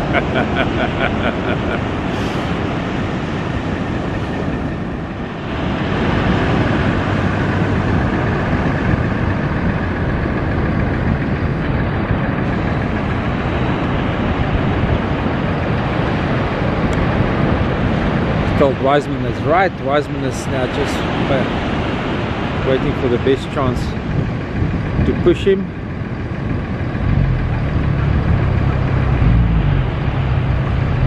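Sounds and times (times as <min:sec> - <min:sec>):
tractor engine rumble: 0:00.0 - 0:20.4, 0:22.5 - 0:31.0.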